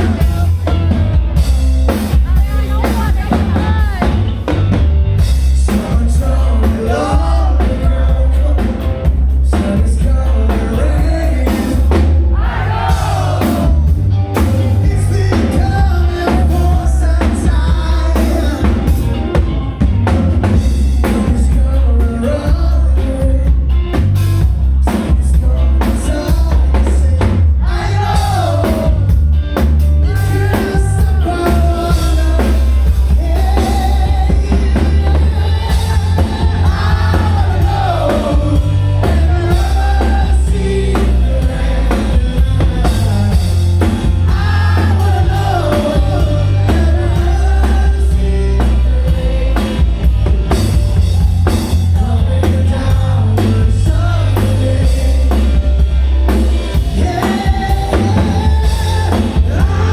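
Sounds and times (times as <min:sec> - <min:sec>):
bass: 0:00.0 - 0:59.9
drum kit: 0:00.0 - 0:59.9
rock song with sung vocal: 0:00.0 - 0:59.9.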